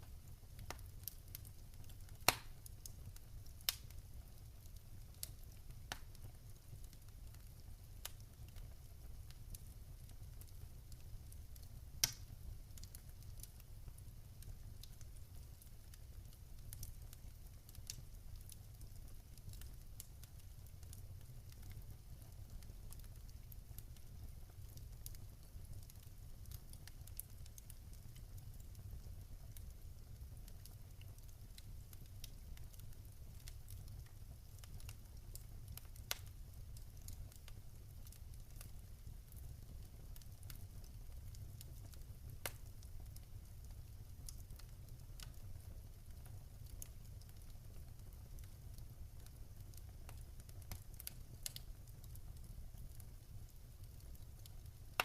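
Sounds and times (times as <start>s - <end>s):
fire popping and snapping: 0.0s - 55.0s
wood fire crackling: 0.0s - 55.0s.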